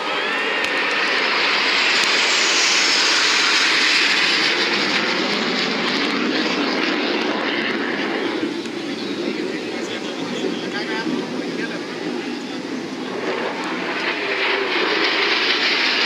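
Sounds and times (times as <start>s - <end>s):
fighter jet flying past: 0.0s - 16.0s.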